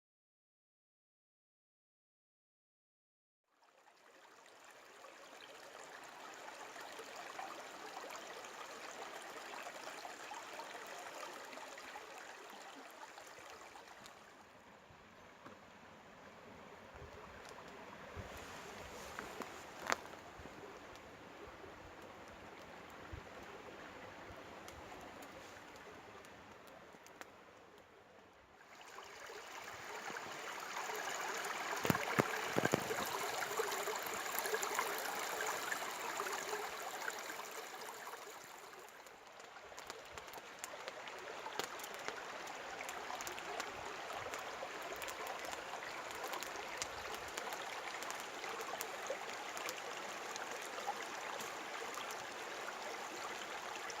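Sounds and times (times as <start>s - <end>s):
stream trickling: 3.5s - 54.0s.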